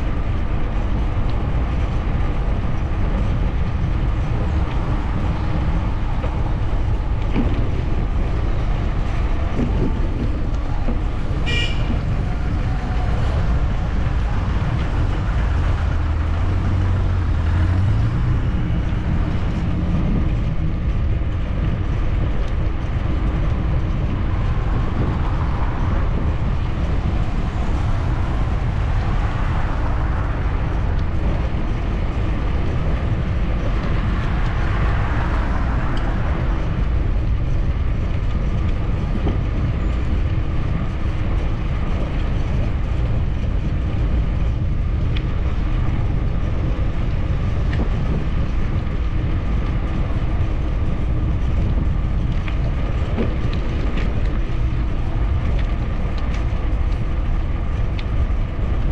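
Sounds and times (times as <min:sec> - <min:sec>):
bicycle rolling on pavement: 0:00.0 - 0:58.9
wind on microphone: 0:00.0 - 0:58.9.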